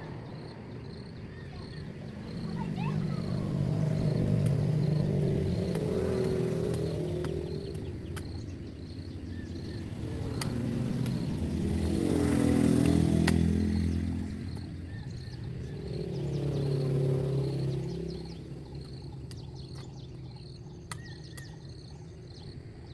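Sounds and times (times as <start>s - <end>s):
vehicle engine passing: 0.0s - 20.9s.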